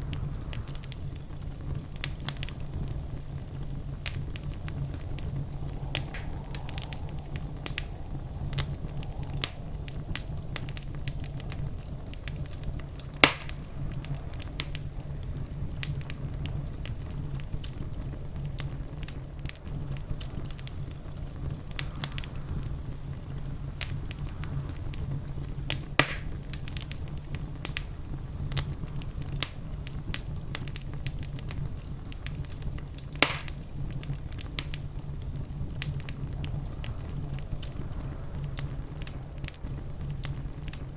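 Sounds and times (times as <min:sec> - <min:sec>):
fire crackling: 0:00.0 - 0:40.9
loud fire pops: 0:00.0 - 0:40.9
low fire rumble: 0:00.0 - 0:40.9.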